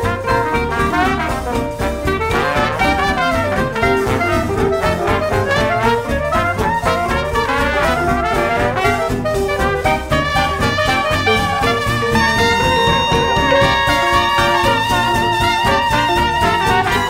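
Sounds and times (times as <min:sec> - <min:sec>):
jazz brass horns melody: 0:00.0 - 0:17.0
steady beat: 0:00.0 - 0:17.0.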